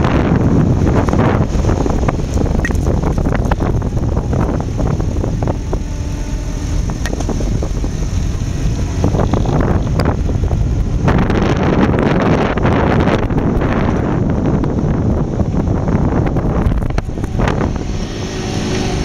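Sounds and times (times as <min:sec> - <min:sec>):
car engine running: 0:00.0 - 0:19.0
wind buffeting on microphone: 0:00.0 - 0:19.0.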